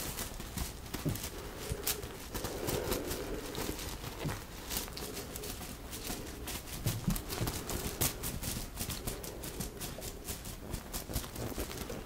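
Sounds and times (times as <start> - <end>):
fingertips scratching sequins: 0.0 - 12.0.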